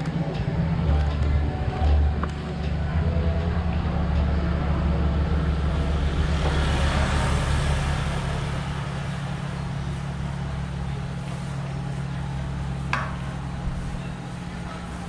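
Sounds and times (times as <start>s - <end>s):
traffic engine hum: 0.0s - 15.0s.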